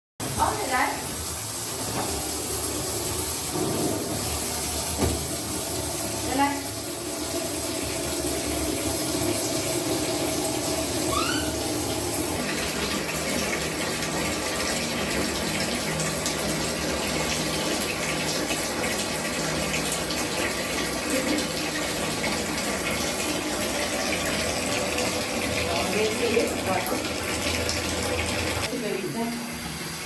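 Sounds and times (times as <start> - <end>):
tap water splashing into basin: 0.2 - 28.7.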